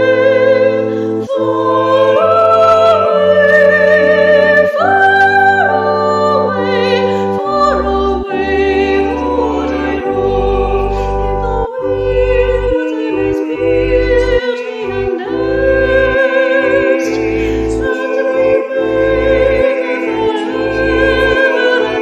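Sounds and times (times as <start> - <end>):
classical singing with vibrato: 0.0 - 22.0
sustained accompanying chords: 0.0 - 22.0.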